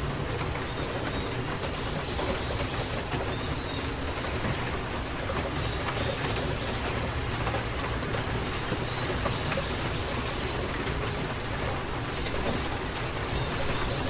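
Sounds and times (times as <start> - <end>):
raindrop ticks: 0.0 - 14.0
steady rain: 0.0 - 14.0.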